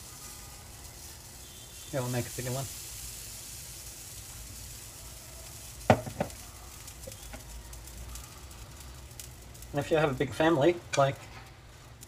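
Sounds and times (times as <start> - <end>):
batter sizzling in frying pan: 0.0 - 12.0.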